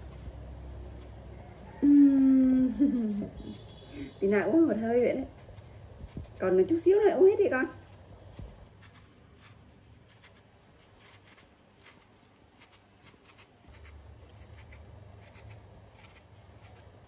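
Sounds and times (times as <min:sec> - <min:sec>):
knife scraping apple peel: 0:00.0 - 0:17.0.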